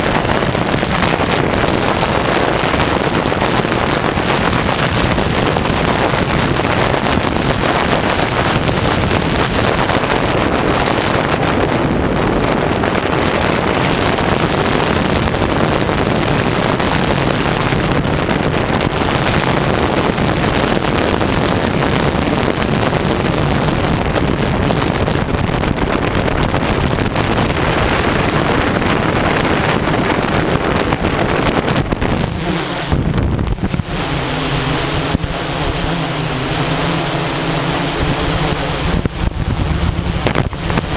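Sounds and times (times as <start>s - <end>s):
drone propellers humming: 0.0s - 40.9s
wind buffeting microphone: 0.0s - 40.9s.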